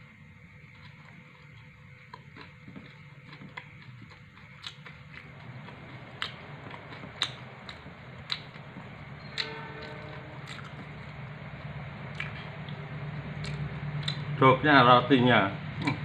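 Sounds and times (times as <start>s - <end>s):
chewing with crunches: 0.5s - 11.3s, 11.9s - 14.4s.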